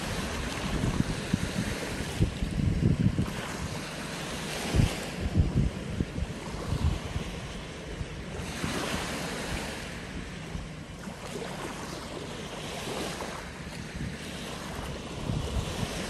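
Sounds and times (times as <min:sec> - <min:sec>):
waves washing on sandy beach: 0:00.0 - 0:16.0
wind buffeting microphone: 0:00.0 - 0:16.0.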